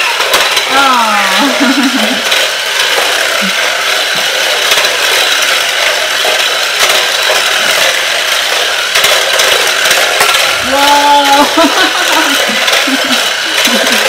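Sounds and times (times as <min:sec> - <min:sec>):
toy car motor running: 0:00.0 - 0:14.0.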